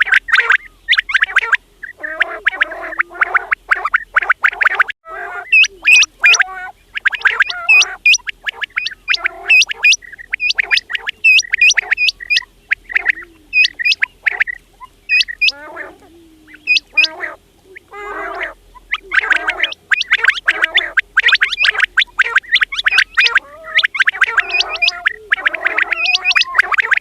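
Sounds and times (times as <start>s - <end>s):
quails calling: 0.0s - 27.0s.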